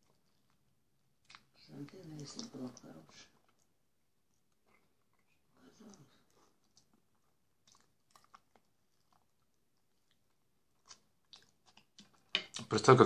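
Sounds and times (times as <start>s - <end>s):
faint chewing and mouth clicks: 0.0s - 12.8s.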